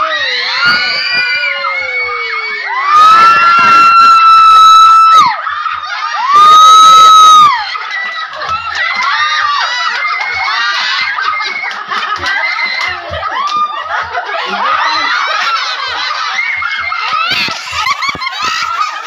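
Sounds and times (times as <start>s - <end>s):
crowd laughing and shouting: 0.0s - 19.0s.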